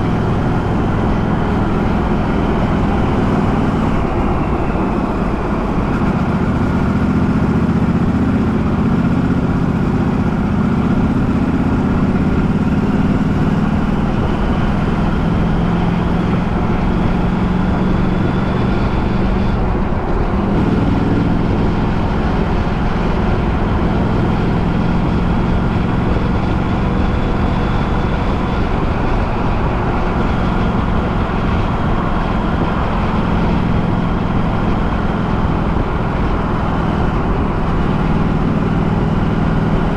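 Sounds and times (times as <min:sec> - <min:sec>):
road noise: 0:00.0 - 0:39.9
vehicle engine: 0:00.0 - 0:39.9.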